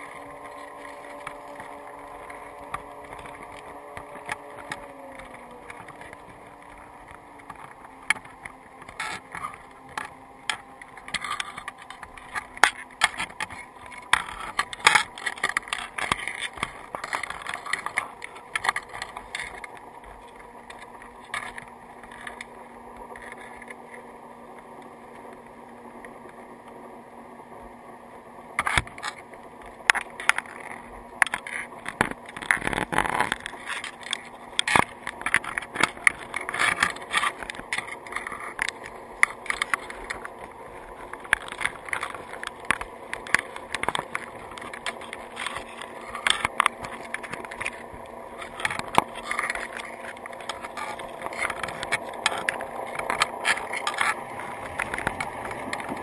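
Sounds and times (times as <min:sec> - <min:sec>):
crab shells clicking and scraping: 0:00.0 - 0:25.4, 0:28.6 - 0:56.0
low motor hum underwater: 0:00.0 - 0:56.0.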